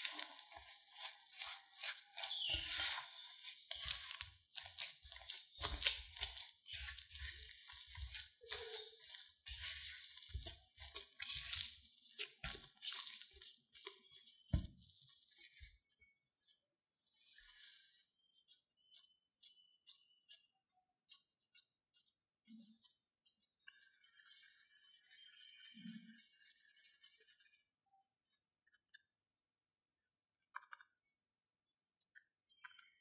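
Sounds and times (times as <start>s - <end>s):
spatula stirring dough: 0.0s - 33.0s.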